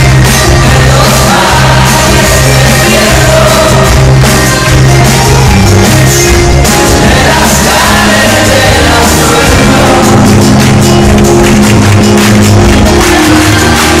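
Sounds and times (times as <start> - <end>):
live rock band with singer: 0.0 - 14.0.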